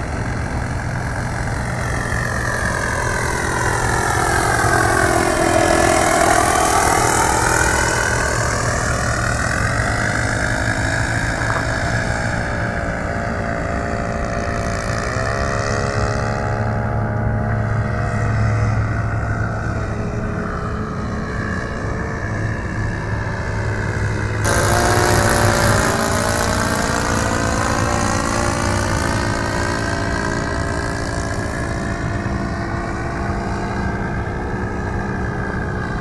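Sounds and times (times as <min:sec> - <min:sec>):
propeller plane engine droning: 0:00.0 - 0:36.0.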